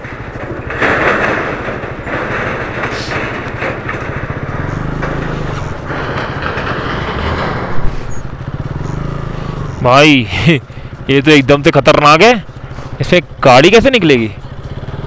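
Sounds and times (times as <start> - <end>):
constant rushing noise: 0.0 - 15.0
motorcycle engine running: 0.0 - 15.0.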